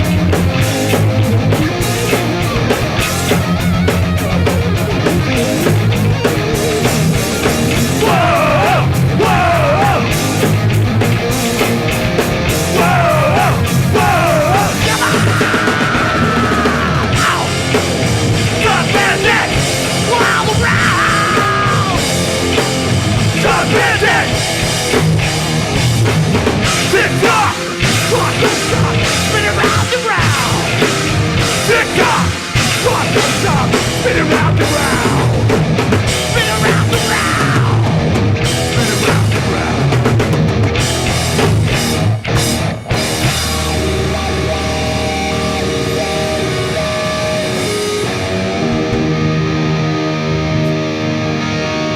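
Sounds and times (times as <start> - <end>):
electric guitar ringing: 0.0 - 51.9
punk band playing live: 0.0 - 51.9.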